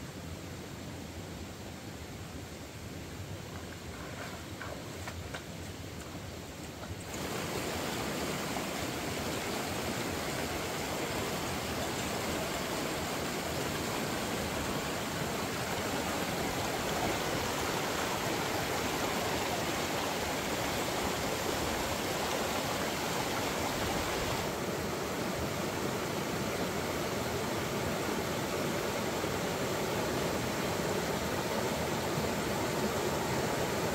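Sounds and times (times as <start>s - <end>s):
river water rushing over rocks: 2.7s - 33.9s.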